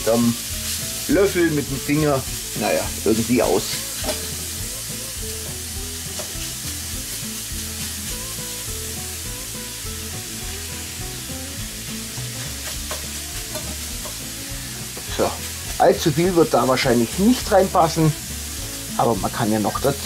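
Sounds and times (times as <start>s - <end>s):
meat sizzling in a pan: 0.0s - 20.0s.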